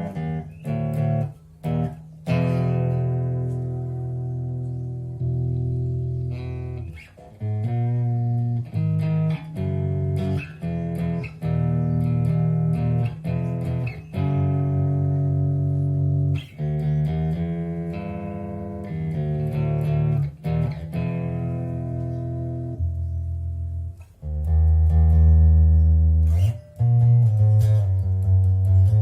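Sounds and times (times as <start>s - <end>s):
plucked bass guitar notes: 0.0s - 29.0s.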